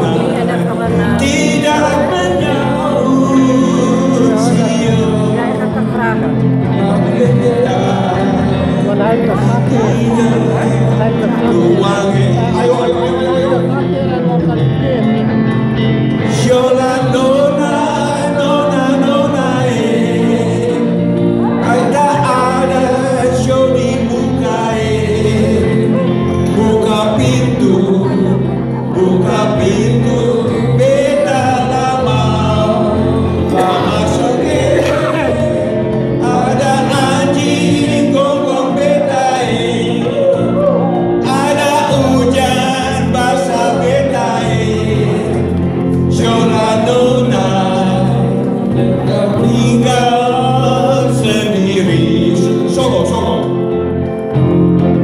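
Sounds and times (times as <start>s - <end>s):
men singing: 0.0s - 14.6s, 16.1s - 54.1s
electric and acoustic guitars: 0.0s - 55.0s.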